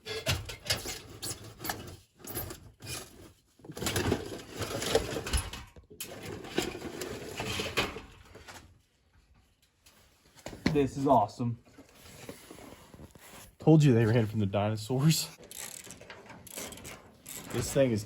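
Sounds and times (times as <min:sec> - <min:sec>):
objects rustling and clattering: 0:00.0 - 0:14.5, 0:15.4 - 0:18.0.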